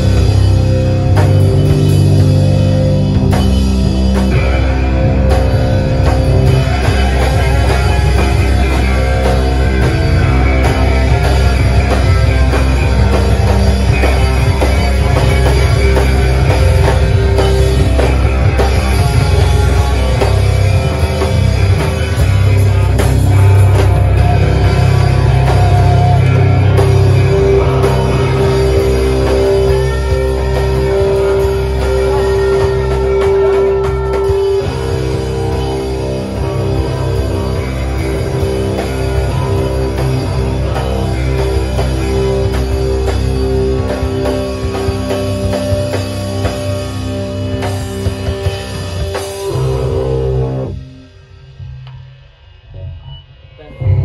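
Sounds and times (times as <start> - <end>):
live rock band playing: 0.0 - 51.8
drum kit: 0.0 - 54.0
electric guitars: 0.0 - 54.0.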